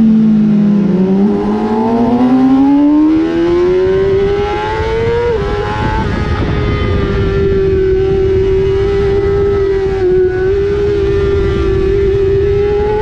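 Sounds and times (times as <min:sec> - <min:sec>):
motorcycle engine revving: 0:00.0 - 0:13.0
wind rush: 0:00.6 - 0:13.0.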